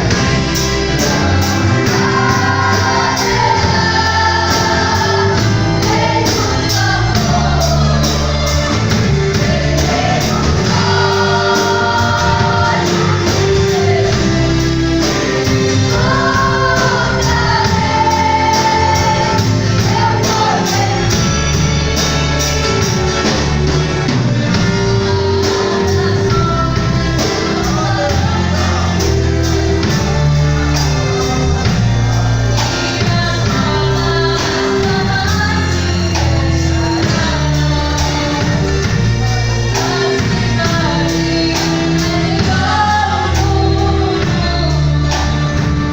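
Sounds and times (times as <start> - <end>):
band accompaniment: 0.0 - 45.9
choir singing gospel song: 0.0 - 45.9
steady drum beat: 0.0 - 45.9.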